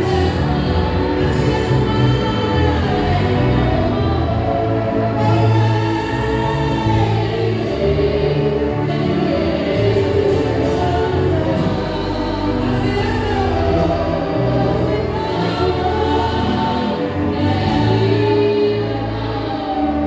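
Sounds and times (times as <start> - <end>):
choir singing a church song: 0.0 - 20.0
instrumental accompaniment: 0.0 - 20.0.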